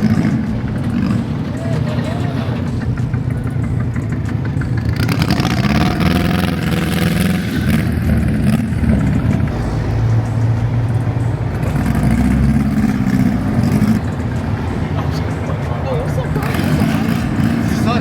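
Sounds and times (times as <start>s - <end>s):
car engine revving: 0.0s - 18.0s
low engine hum: 0.0s - 18.0s.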